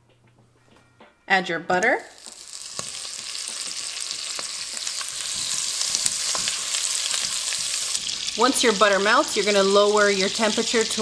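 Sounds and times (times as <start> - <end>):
butter sizzling in hot oil: 2.1 - 11.0.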